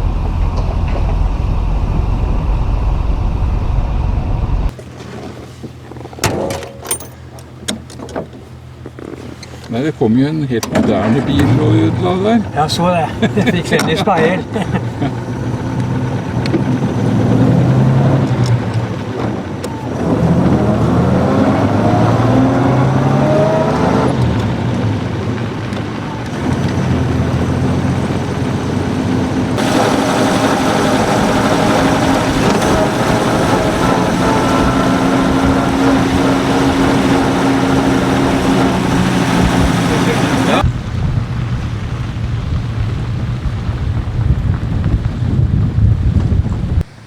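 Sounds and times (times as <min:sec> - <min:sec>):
car engine accelerating: 0:00.0 - 0:04.9, 0:06.8 - 0:47.0.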